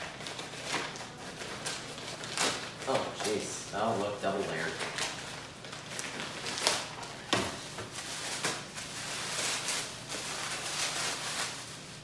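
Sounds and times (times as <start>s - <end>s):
tissue paper and gift bag rustling: 0.0s - 12.0s.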